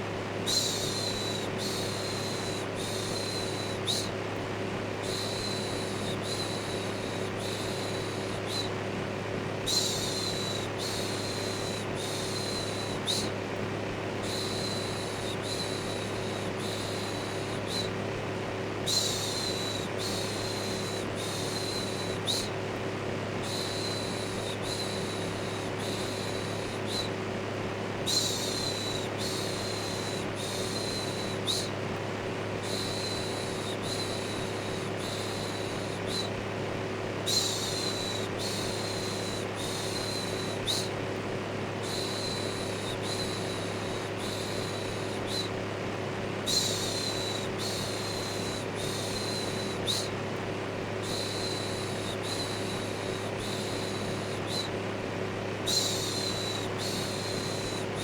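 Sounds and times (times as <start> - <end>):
electric fan humming: 0.0 - 58.0.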